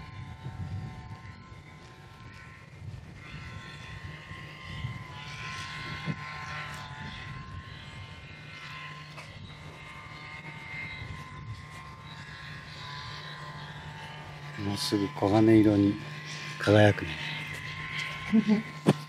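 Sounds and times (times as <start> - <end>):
wind rumble on microphone: 0.0 - 16.5
distant engine hum: 0.0 - 19.0.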